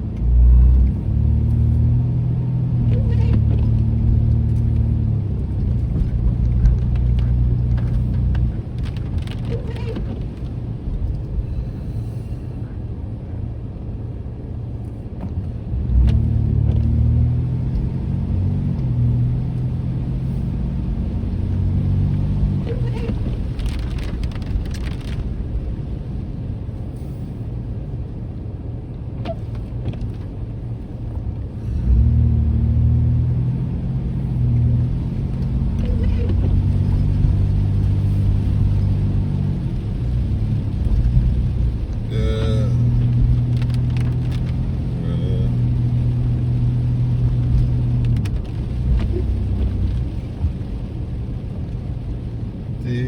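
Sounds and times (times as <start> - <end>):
car engine: 0.0 - 53.0
road noise: 0.0 - 53.0.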